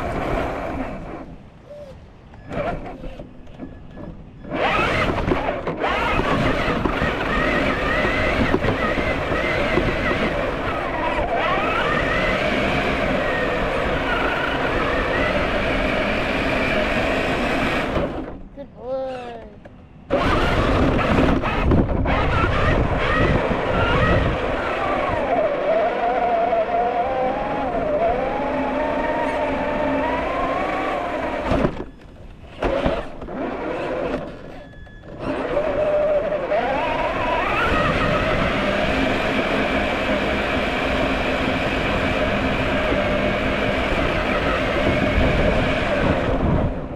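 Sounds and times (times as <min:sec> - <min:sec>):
electric motor and gears whining: 0:00.0 - 0:01.6, 0:02.2 - 0:46.9.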